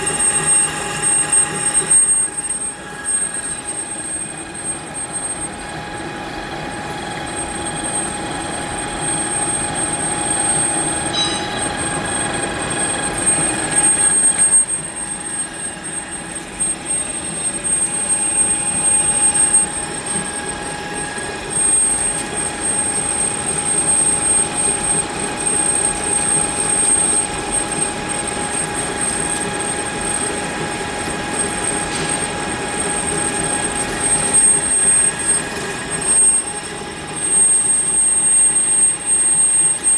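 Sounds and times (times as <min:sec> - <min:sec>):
metal lathe whining: 0:00.0 - 0:39.9.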